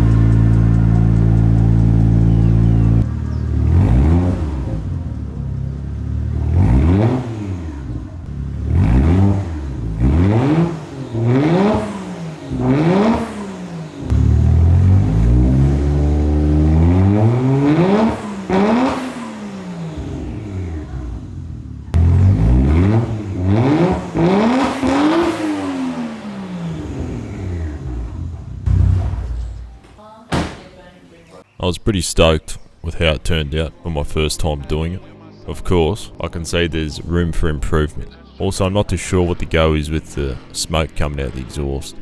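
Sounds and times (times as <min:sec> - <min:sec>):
turbo engine revving: 0:00.0 - 0:29.8, 0:32.8 - 0:42.0.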